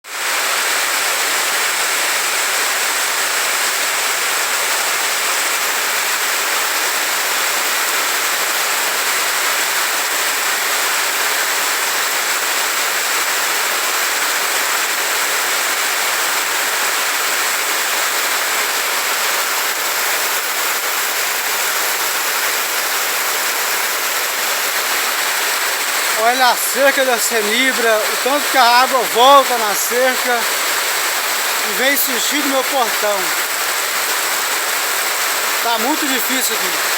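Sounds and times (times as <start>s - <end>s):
floodwater rushing in street: 0.0s - 36.9s
heavy rain: 0.0s - 36.9s.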